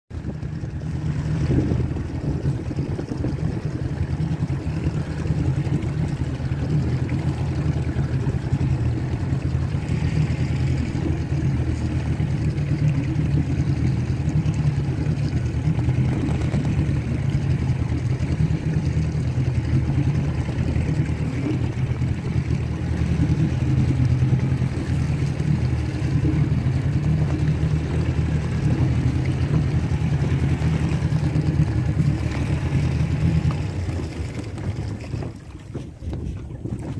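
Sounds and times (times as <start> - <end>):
boat engine droning: 0.1 - 36.9
wind: 0.1 - 36.9.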